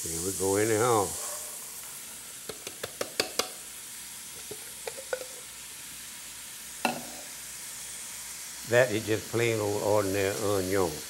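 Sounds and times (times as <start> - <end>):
onion sizzling in pot: 0.0 - 11.0.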